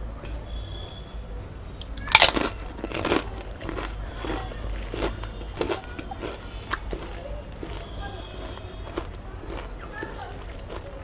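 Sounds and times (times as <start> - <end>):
person crunching crisp food: 1.8 - 11.0.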